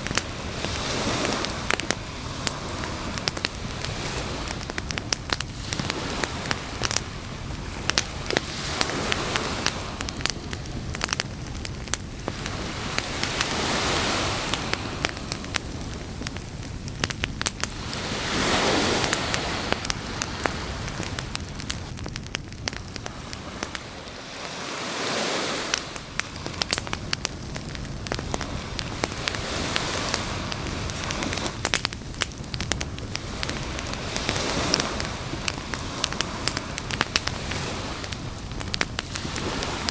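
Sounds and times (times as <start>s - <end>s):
campfire crackling and popping: 0.0s - 39.9s
ocean waves washing in: 0.0s - 39.9s.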